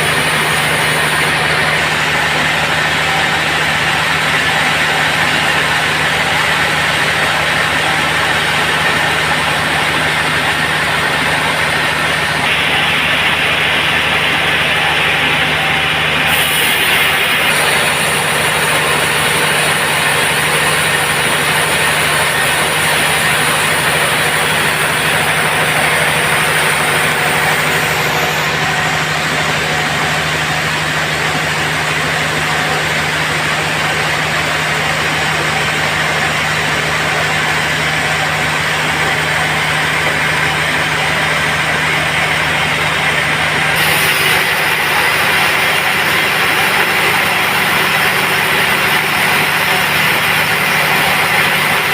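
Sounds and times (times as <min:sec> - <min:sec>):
band saw running: 0:00.0 - 0:51.9.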